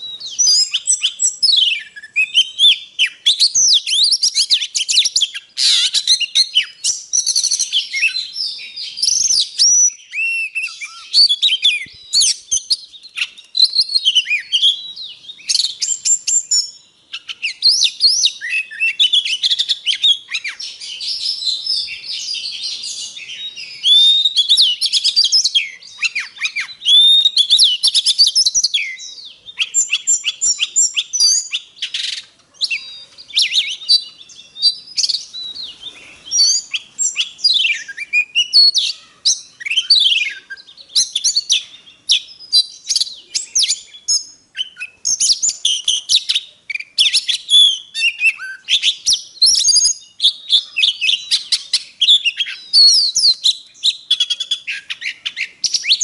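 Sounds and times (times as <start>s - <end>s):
bird singing whistles and trills: 0.0s - 56.0s.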